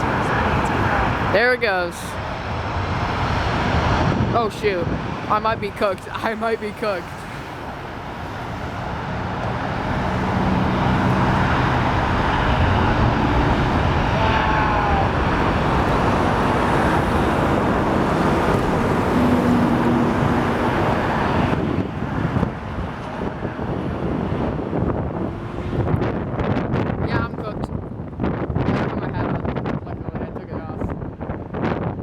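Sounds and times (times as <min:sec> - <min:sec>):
jet engine roar: 0:00.0 - 0:27.6
wind on microphone: 0:00.0 - 0:32.0.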